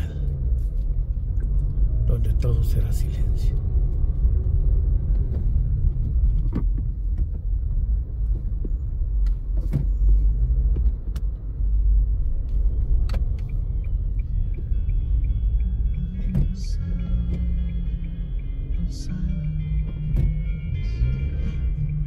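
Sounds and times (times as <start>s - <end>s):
car road rumble: 0.0s - 22.0s.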